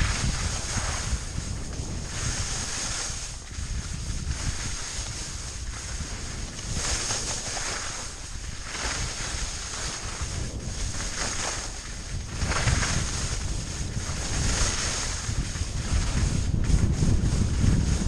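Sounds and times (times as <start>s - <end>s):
skis sliding on snow: 0.0s - 18.0s
wind buffeting microphone: 0.0s - 18.0s.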